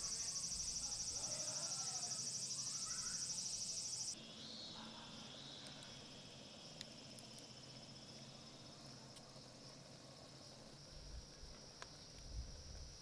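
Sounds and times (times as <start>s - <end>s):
faint insect drone: 0.0s - 13.0s
insects trilling: 0.0s - 13.0s.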